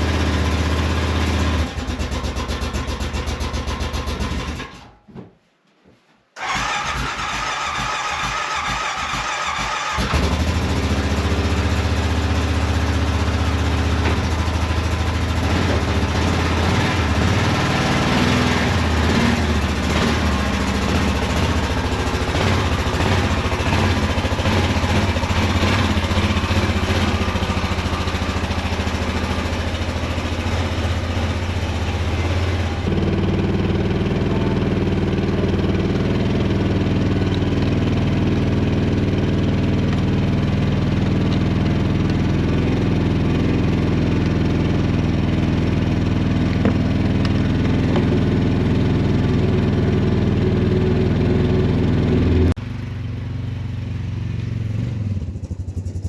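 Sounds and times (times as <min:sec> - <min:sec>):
small gasoline engine running: 0:00.0 - 0:04.8, 0:06.4 - 0:56.0.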